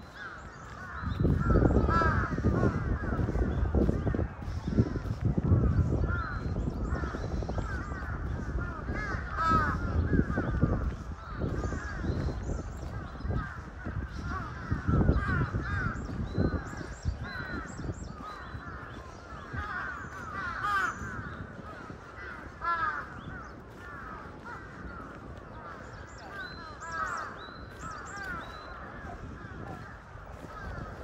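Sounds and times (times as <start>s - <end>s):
crows cawing: 0.0s - 31.0s.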